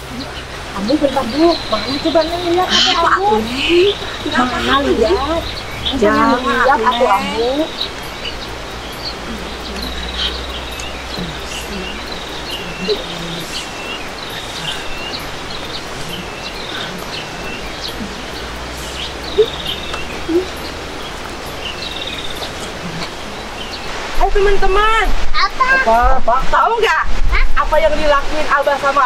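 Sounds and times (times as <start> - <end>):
outdoor hiss: 0.0 - 29.0
small birds chirping: 0.0 - 29.0.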